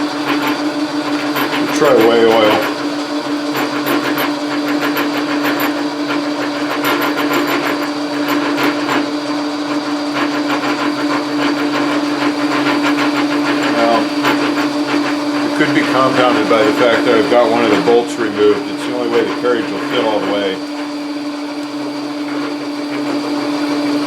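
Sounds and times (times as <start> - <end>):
metal lathe running: 0.0 - 24.0.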